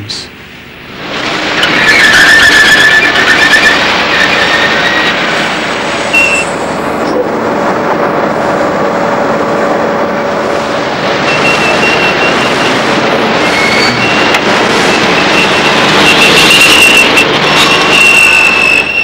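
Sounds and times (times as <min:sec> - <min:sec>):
ship machinery and sea rushing: 0:00.6 - 0:19.0.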